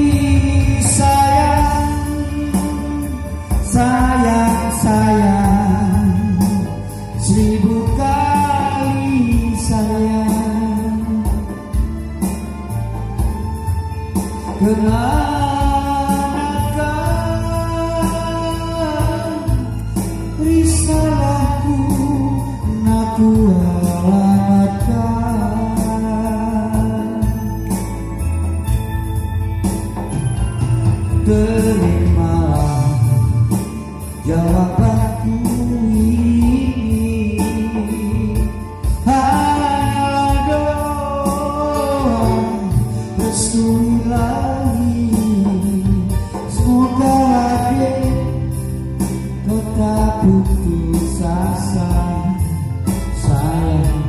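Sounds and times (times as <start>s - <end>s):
man singing into a microphone: 0.0s - 28.3s, 30.8s - 54.0s
backing music: 0.0s - 54.0s.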